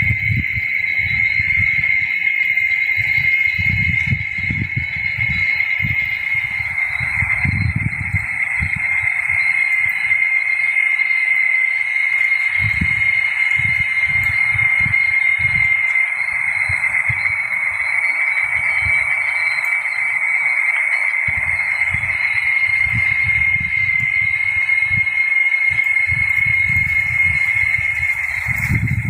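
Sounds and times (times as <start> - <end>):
cicadas buzzing: 0.0 - 29.0
wind rumbling on microphone: 0.0 - 29.0.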